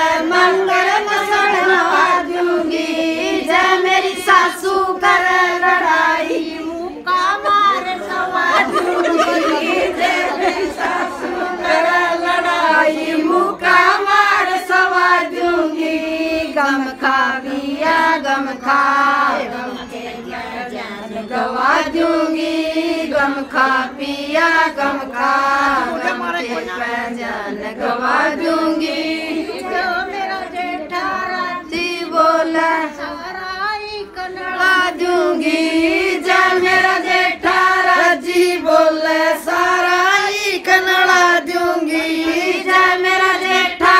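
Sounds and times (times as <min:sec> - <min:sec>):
women singing folk song: 0:00.0 - 0:43.9.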